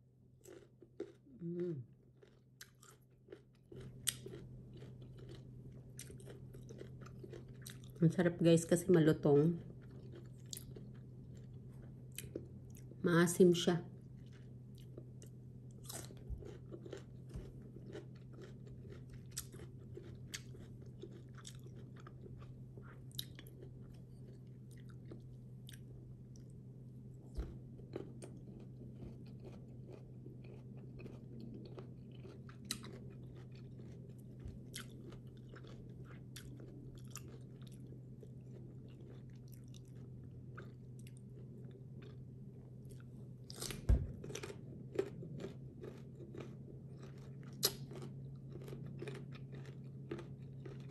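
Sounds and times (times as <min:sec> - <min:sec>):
low steady hum: 0:00.0 - 0:50.9
chewing crunchy fruit: 0:00.4 - 0:13.0, 0:13.9 - 0:50.9.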